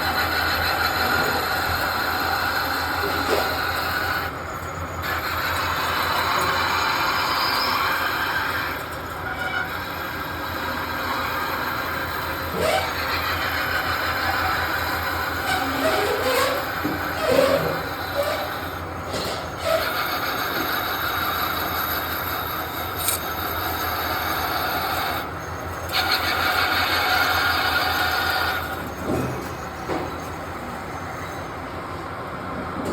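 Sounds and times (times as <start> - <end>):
metal lathe humming: 0.0 - 32.5.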